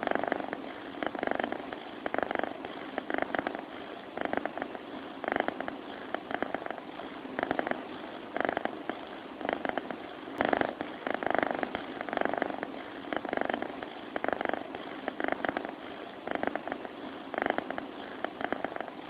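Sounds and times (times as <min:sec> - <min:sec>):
cat snoring and purring: 0:00.0 - 0:19.0.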